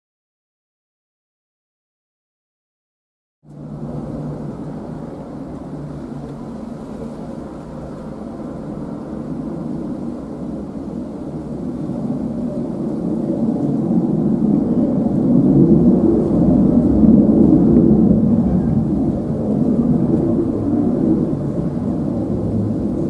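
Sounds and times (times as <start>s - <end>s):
jet engine rumble: 3.4s - 23.0s.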